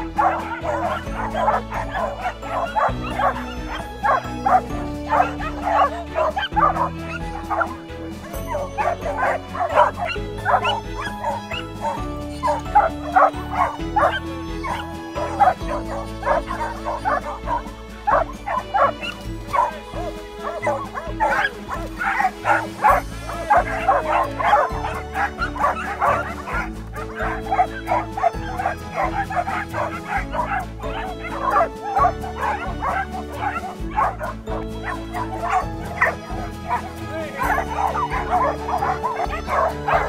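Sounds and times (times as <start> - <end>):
background music: 0.0 - 40.0
dogs barking: 0.0 - 40.0.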